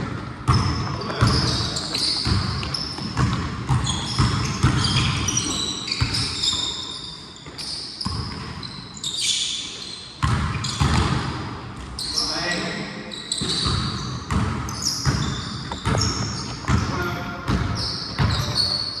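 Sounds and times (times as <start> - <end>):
basketball bouncing on court: 0.0 - 8.8, 9.7 - 12.0, 13.3 - 19.0
sneaker squeaks: 0.5 - 19.0.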